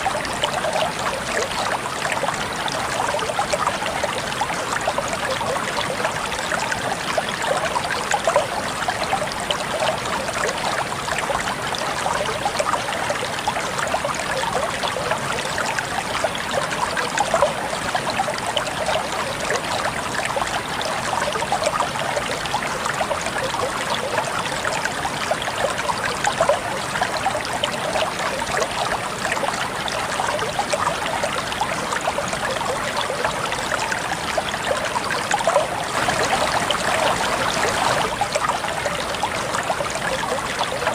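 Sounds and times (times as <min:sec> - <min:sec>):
stream flowing over stones: 0:00.0 - 0:40.9.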